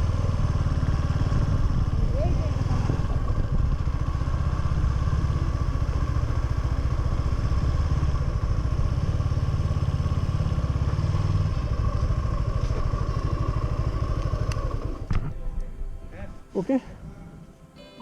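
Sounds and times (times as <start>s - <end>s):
motorcycle engine running steadily: 0.0s - 16.4s.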